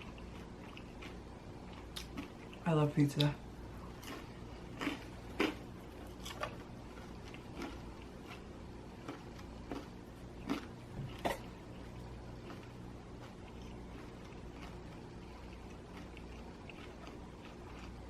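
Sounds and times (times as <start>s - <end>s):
chewing crispy pizza: 0.0s - 2.7s, 3.7s - 18.0s.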